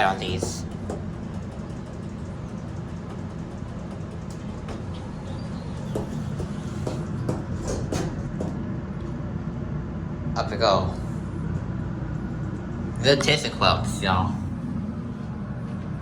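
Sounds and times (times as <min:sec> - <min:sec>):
elevator humming: 0:00.0 - 0:16.0.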